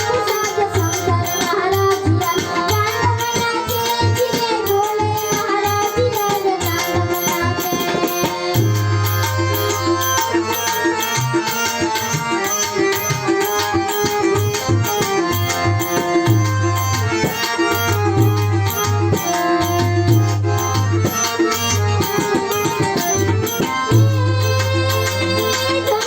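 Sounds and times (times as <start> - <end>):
held melodic tones: 0.0 - 26.0
tabla rhythm: 0.0 - 26.0.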